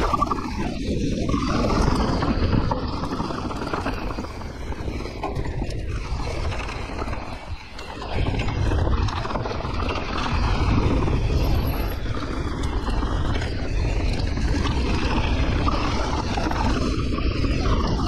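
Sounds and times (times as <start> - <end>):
bike tyres rolling on rough trail: 0.0 - 18.0
wind buffeting microphone: 0.0 - 18.0.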